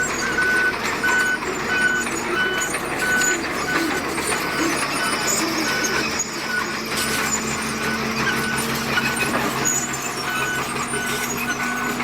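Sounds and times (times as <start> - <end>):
back-up alarm beeping: 0.0 - 12.0
diesel engine running: 0.0 - 12.0.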